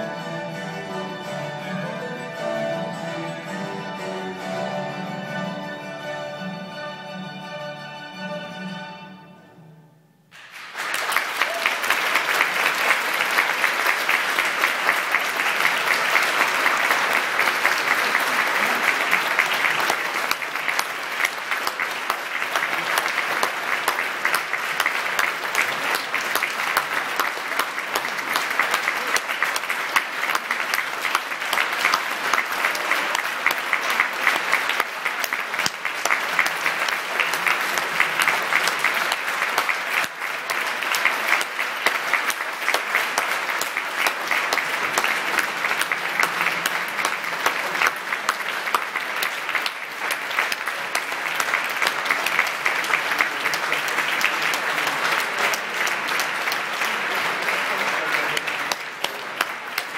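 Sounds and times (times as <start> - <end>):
audience applauding: 10.3 - 59.9.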